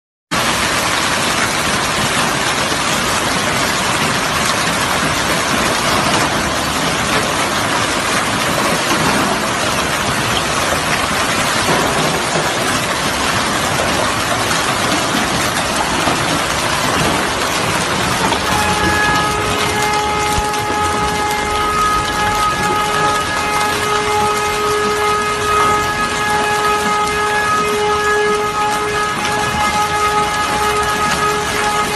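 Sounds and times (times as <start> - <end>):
hail and heavy rain on pavement: 0.3 - 31.9.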